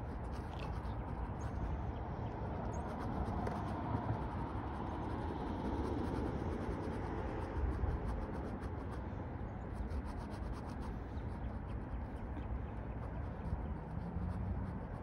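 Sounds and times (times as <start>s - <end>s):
pen scratching on paper: 0.0s - 1.6s, 2.7s - 9.1s, 9.7s - 12.3s, 12.9s - 15.0s
steady low rumble: 0.0s - 15.0s.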